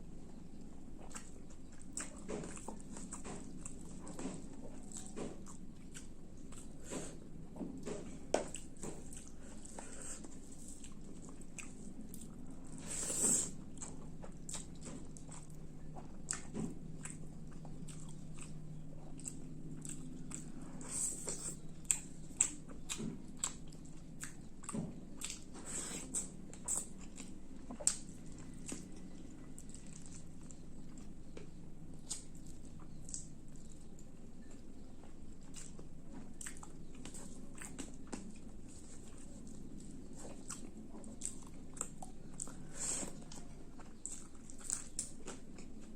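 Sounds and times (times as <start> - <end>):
faint low hum: 0.0 - 45.9
person chewing food: 0.1 - 45.9.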